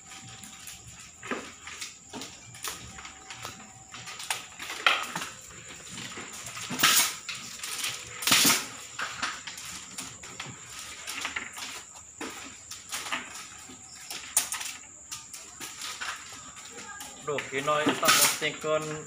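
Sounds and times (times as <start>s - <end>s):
bamboo strips clicking and rustling: 0.0s - 19.0s.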